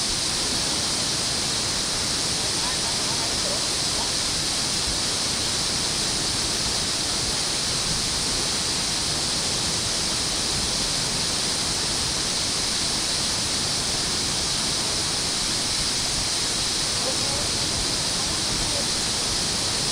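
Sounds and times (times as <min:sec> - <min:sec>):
water rushing: 0:00.0 - 0:19.9.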